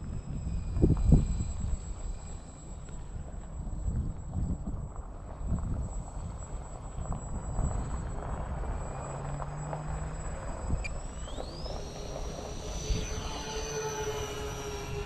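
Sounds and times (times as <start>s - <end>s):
electric motors whining: 0.0s - 4.2s, 6.0s - 15.0s.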